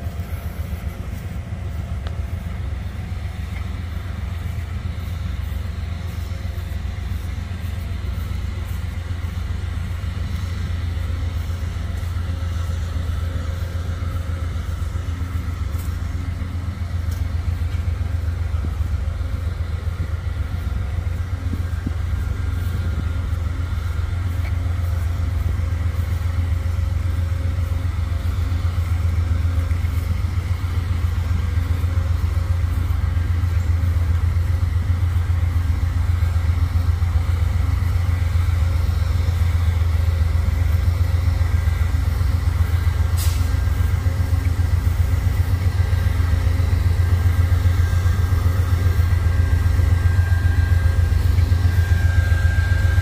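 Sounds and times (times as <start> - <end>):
diesel locomotive engine rumble: 0.0 - 53.0.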